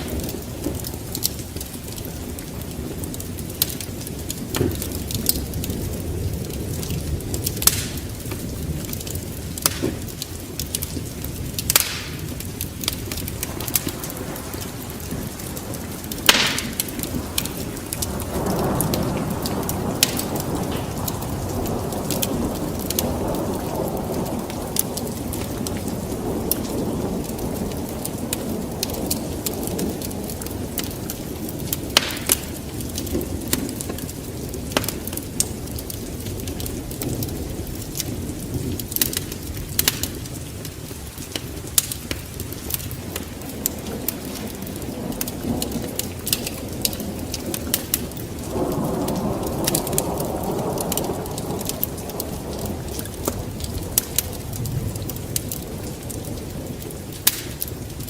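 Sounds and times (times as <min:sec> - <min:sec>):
steady rain: 0:00.0 - 0:58.0
thunder rumbling: 0:00.0 - 0:58.0
wood fire crackling: 0:00.0 - 0:58.0.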